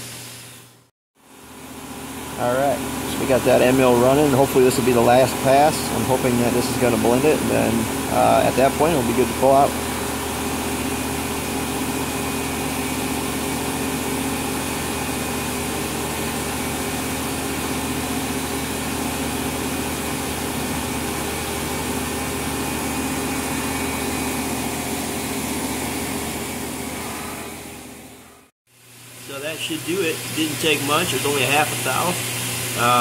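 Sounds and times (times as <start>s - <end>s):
milling machine humming: 0.0s - 33.0s.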